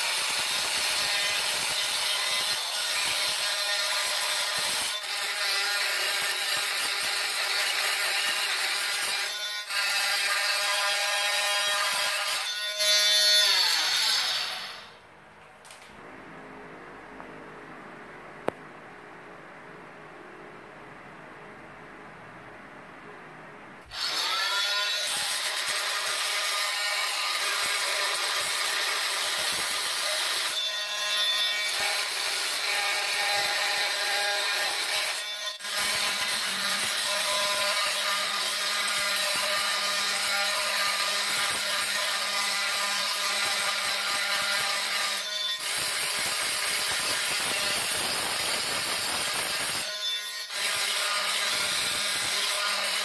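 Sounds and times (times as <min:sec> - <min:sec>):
multi-tool grinding grout: 0:00.0 - 0:14.9, 0:23.9 - 0:53.0.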